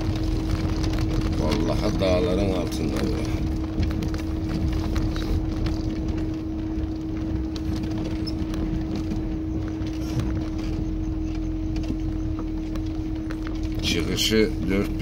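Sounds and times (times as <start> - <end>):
car engine running: 0.0 - 15.0
rattles and knocks: 0.0 - 15.0
tyres rumbling on gravel: 0.0 - 15.0.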